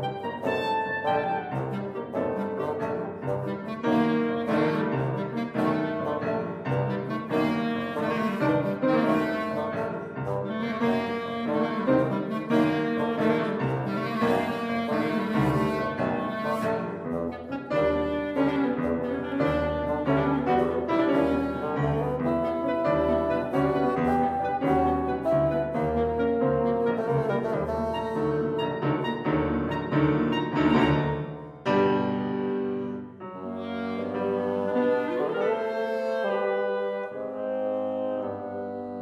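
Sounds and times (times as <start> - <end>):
bassoon: 0.0 - 39.0
clarinet: 0.0 - 39.0
piano: 0.0 - 39.0.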